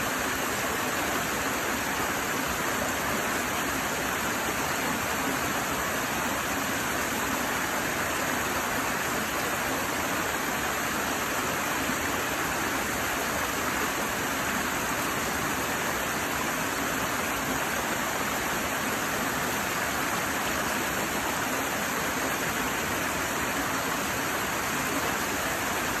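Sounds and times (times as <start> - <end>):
stream cascading over boulders: 0.0 - 26.0.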